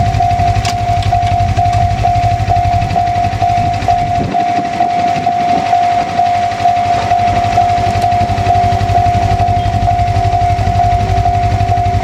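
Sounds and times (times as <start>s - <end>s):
level crossing warning bell: 0.0s - 12.0s
low rumble: 0.0s - 12.0s.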